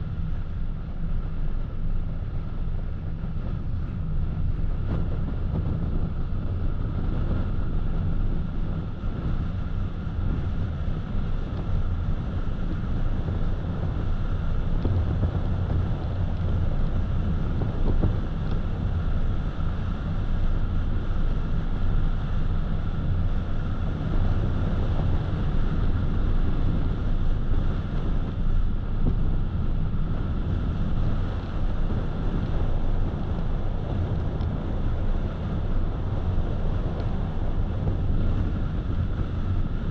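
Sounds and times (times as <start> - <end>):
wind noise: 0.0 - 39.9.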